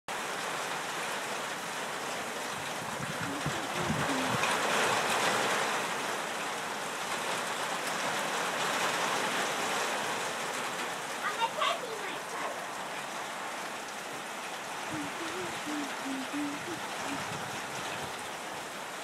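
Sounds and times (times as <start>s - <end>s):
steady rain: 0.1s - 19.0s.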